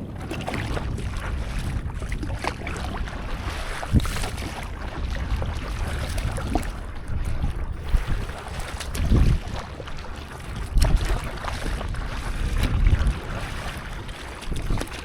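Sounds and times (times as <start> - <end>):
water splashing around paddleboard: 0.0 - 15.0
wind rumbling on microphone: 0.0 - 15.0.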